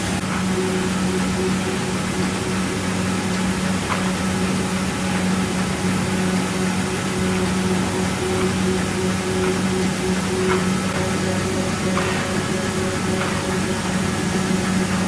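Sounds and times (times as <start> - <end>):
cutting machine hum: 0.0 - 15.0
machine hiss: 0.0 - 15.0.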